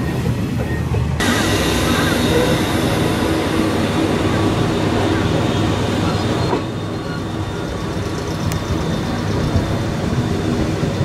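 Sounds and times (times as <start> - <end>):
electric train pulling away: 1.2 - 11.0.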